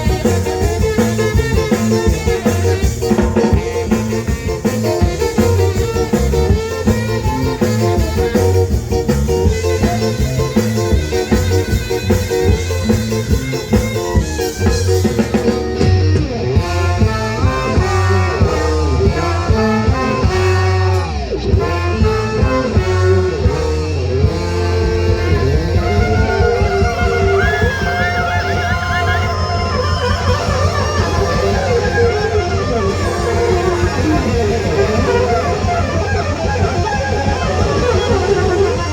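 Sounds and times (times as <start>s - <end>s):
bass line: 0.0s - 38.9s
drum kit: 0.0s - 38.9s
guitar: 0.0s - 38.9s
horns: 0.0s - 38.9s.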